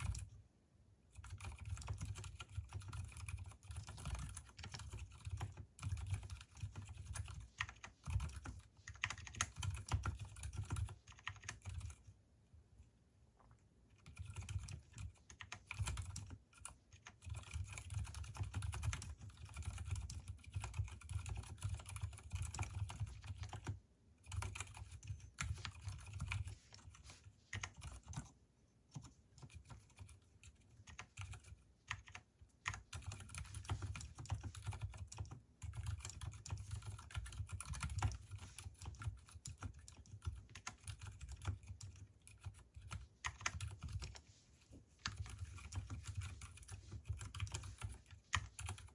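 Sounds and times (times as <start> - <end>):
fast mechanical keyboard typing: 0.0 - 0.4, 1.1 - 12.1, 13.9 - 44.2, 45.0 - 48.9.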